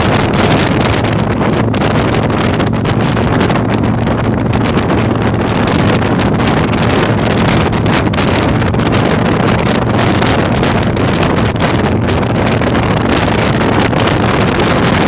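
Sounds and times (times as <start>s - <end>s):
motorcycle engine droning: 0.0s - 15.0s
wind buffeting microphone: 0.0s - 15.0s.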